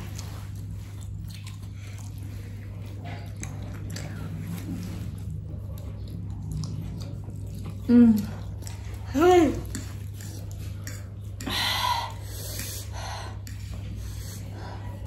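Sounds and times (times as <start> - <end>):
people chewing and slurping: 0.0 - 15.0
steady low hum: 0.0 - 15.0.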